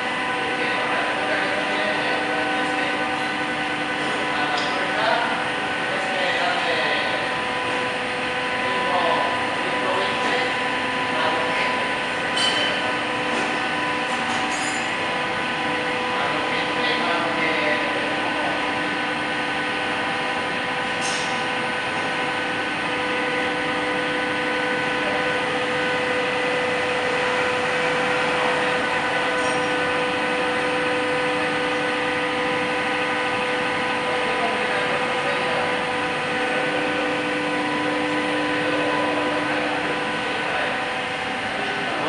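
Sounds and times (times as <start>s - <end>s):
lathe humming and whining: 0.0s - 42.0s.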